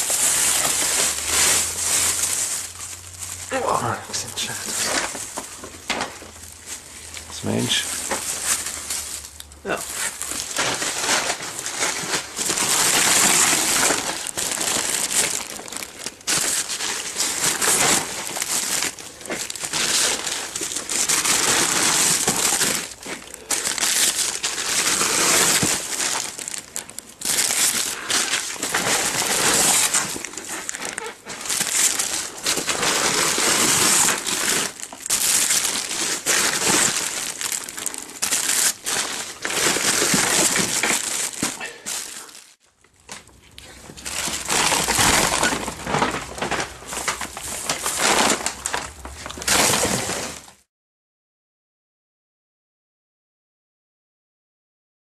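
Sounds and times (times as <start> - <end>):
plastic bags crinkling and rustling: 0.0 - 50.7.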